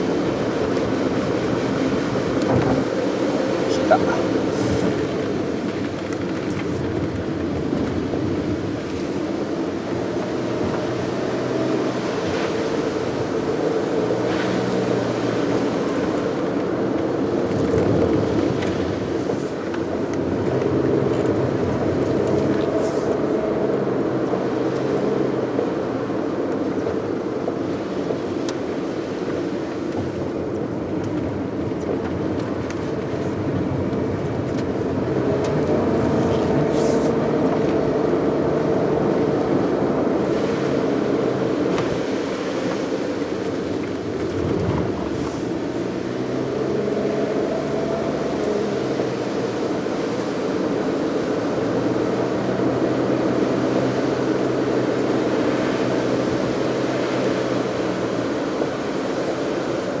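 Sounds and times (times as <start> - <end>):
car engine: 0.0 - 60.0
road noise: 0.0 - 60.0.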